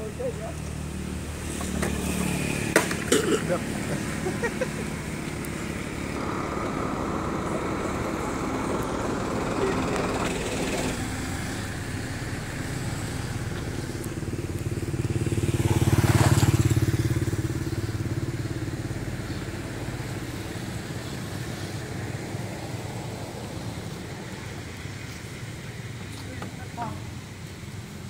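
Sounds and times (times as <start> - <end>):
motorbike engine passing by: 0.0 - 27.4.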